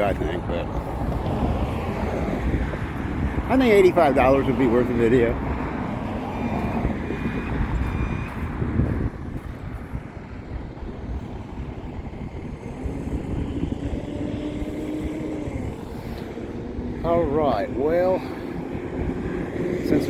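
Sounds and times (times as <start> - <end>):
steady engine noise: 0.0 - 20.0
wind rumbling on microphone: 0.0 - 20.0.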